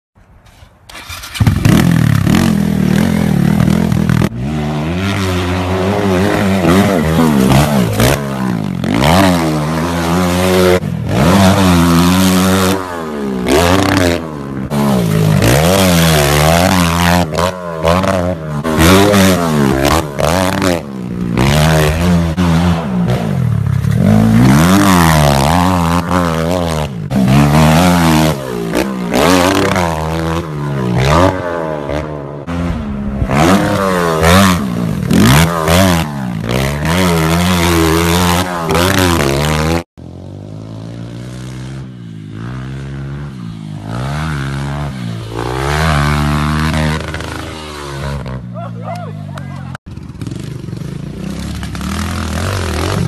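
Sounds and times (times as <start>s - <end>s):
pit bike engine revving: 0.9s - 53.0s.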